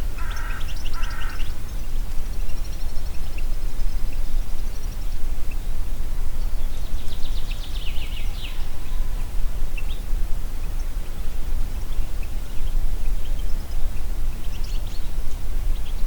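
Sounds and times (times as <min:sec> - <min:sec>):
wind through forest: 0:00.0 - 0:16.0.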